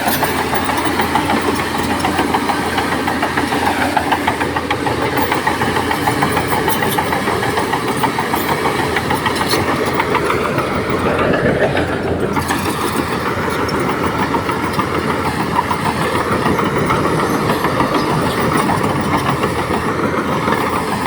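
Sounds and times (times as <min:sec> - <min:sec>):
heavy diesel engine clattering: 0:00.0 - 0:21.0.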